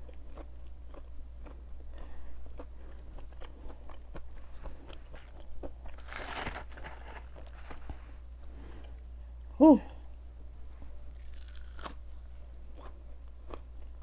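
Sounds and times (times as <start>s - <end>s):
crunchy chewing: 0.0s - 13.7s.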